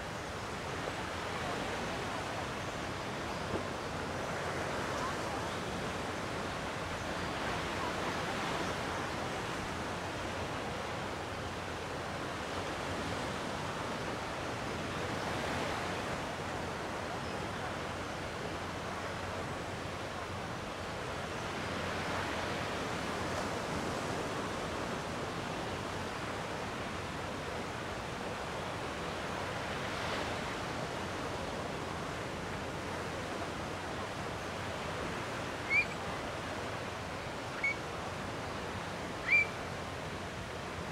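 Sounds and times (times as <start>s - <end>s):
sea waves washing on shore: 0.0s - 40.9s.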